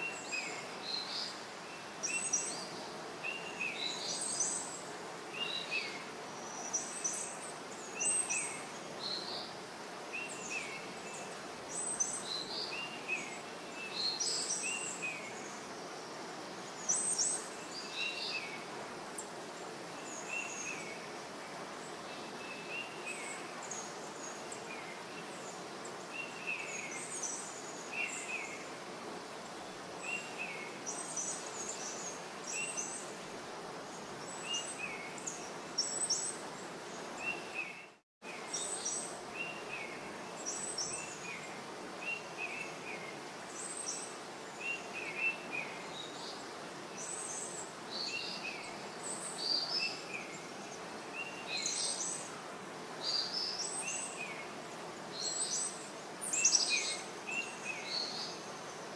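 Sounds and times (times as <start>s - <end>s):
small birds chirping: 0.0s - 52.4s, 53.0s - 58.9s
background hiss: 0.0s - 58.9s.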